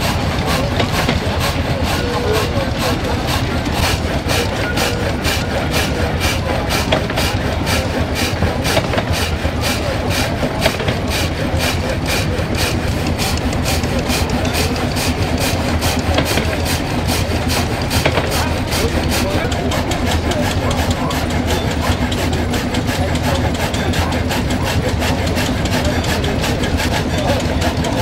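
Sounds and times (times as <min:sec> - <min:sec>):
frame saw rasping through timber: 0:00.0 - 0:28.0
stationary engine running: 0:00.0 - 0:28.0.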